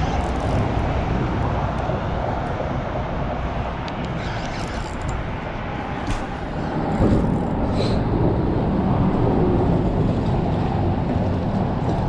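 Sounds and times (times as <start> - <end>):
rumble of road traffic: 0.0 - 12.0.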